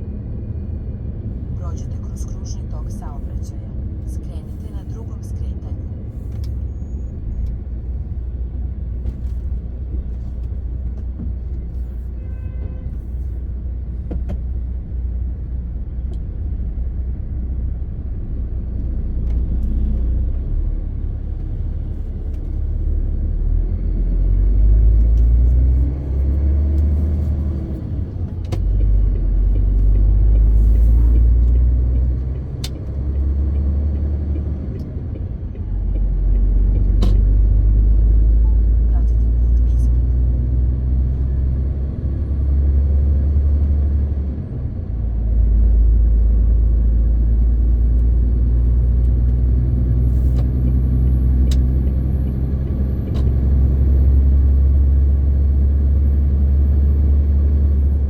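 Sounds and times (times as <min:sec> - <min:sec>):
diesel truck engine rumble: 0:00.0 - 0:58.0
road noise: 0:00.0 - 0:58.0.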